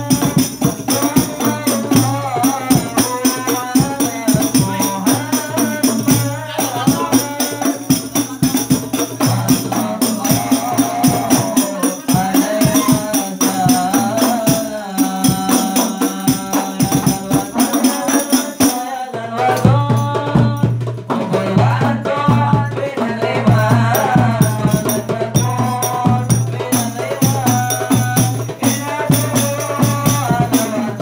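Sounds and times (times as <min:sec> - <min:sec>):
hand drum rhythm: 0:00.0 - 0:31.0
men singing into microphones: 0:00.0 - 0:31.0.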